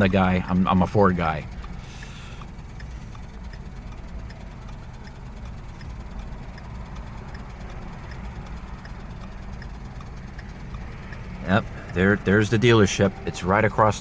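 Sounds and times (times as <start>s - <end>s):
engine and road rumble: 0.0s - 14.0s
faint light ticks: 1.5s - 13.4s.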